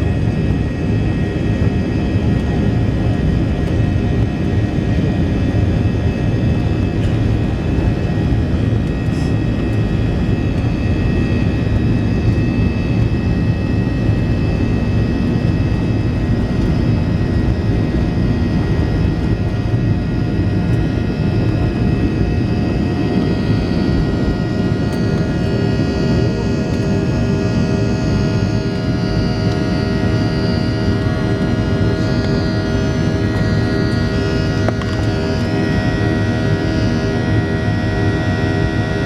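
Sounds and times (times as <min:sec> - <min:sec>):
engine fan whine: 0:00.0 - 0:39.0
jet engines roaring in cabin: 0:00.0 - 0:39.0.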